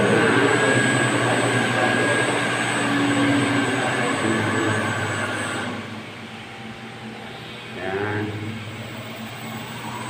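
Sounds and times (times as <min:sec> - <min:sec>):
thin high whine: 0:00.0 - 0:10.0
water pump machine whirring: 0:00.0 - 0:10.0.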